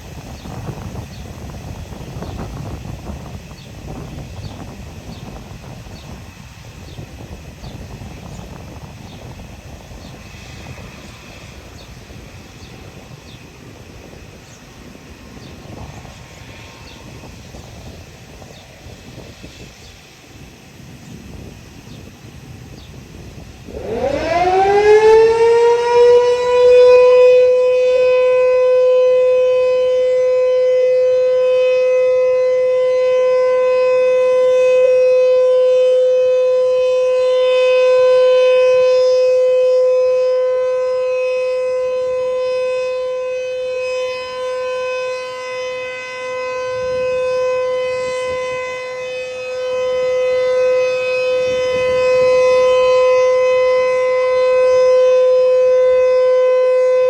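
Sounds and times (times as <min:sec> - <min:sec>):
outdoor warning siren: 0:00.0 - 0:57.0.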